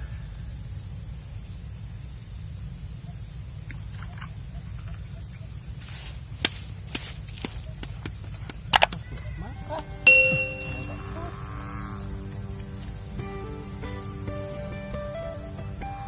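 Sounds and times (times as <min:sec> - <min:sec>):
constant high hiss: 0:00.0 - 0:16.0.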